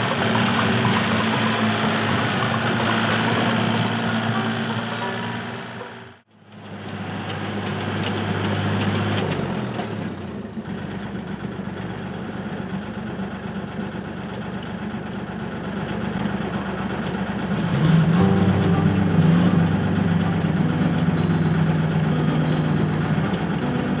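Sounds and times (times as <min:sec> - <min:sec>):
small tractor engine idling: 0:00.0 - 0:17.6, 0:18.2 - 0:24.0.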